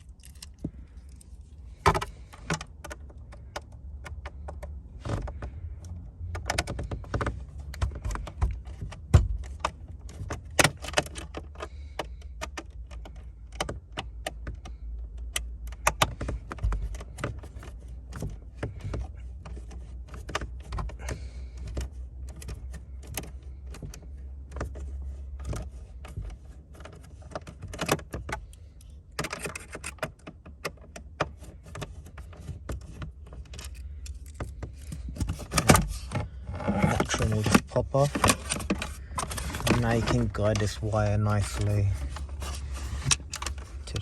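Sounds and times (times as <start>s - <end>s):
clicks and taps on plastic trim: 1.8s - 40.7s.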